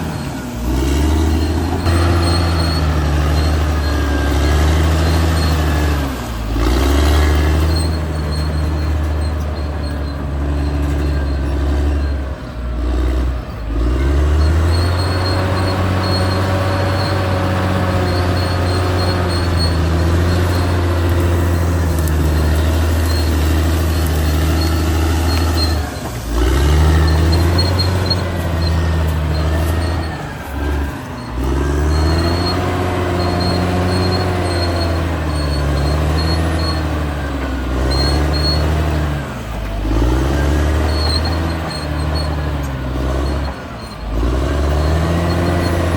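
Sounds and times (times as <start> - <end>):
bulldozer diesel engine under load: 0.0 - 45.9
steel tracks squealing: 0.0 - 45.9.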